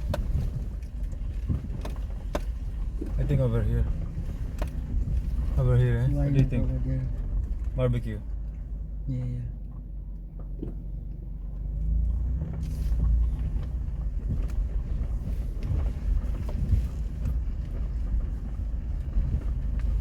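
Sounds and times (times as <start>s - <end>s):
vehicle engine rumbling on sand: 0.0s - 20.0s.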